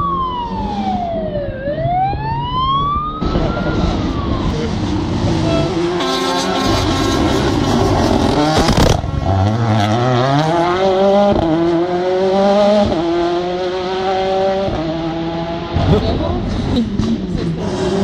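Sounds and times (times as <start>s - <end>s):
engine upshifts: 0.0s - 18.0s
rally car engine revving: 3.2s - 18.0s.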